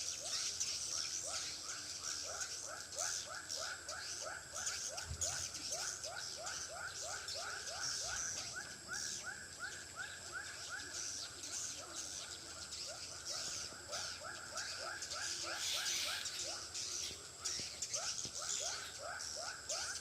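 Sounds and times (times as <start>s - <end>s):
high-pitched bird chatter: 0.0s - 20.0s.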